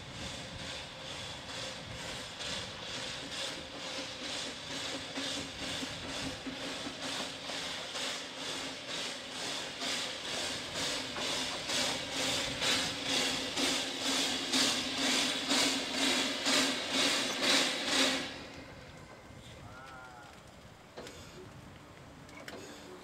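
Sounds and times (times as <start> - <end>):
steam locomotive chuffing: 0.0 - 21.6, 22.4 - 23.0.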